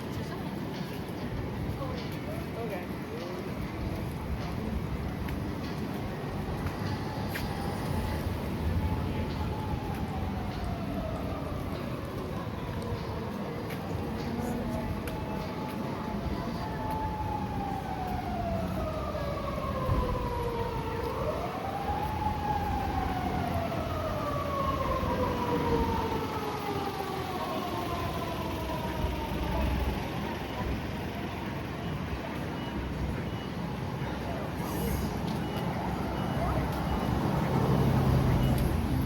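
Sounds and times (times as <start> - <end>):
city street noise: 0.0 - 39.0
emergency siren wailing: 3.9 - 39.0.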